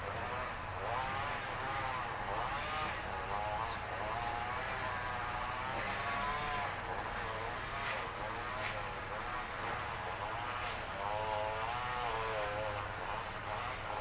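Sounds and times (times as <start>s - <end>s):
string trimmer engine revving: 0.0s - 14.0s.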